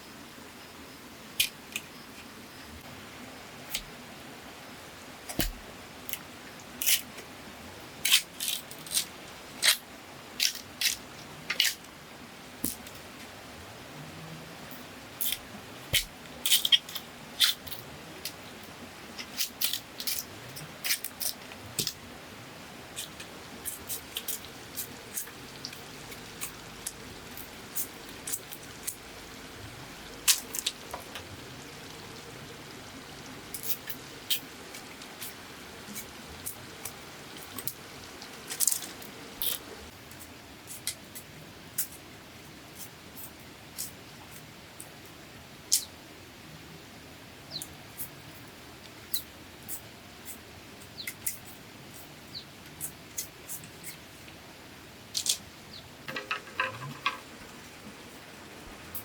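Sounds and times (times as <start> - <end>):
steady low hiss: 0.0 - 59.0.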